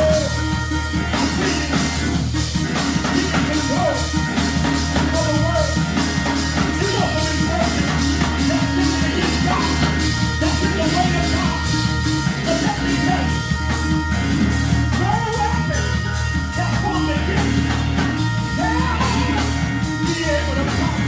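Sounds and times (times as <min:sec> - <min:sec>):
bass: 0:00.0 - 0:21.0
drum kit: 0:00.0 - 0:21.0
lead voice or instrument phrases: 0:00.0 - 0:21.0
live gospel music: 0:00.0 - 0:21.0.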